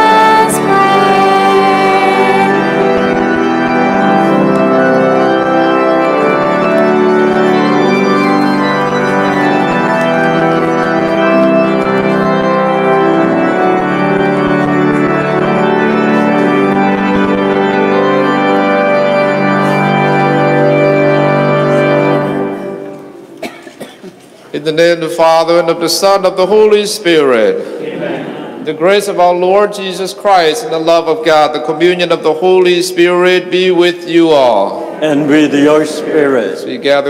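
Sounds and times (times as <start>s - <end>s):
church organ playing hymn chords: 0.0s - 37.0s.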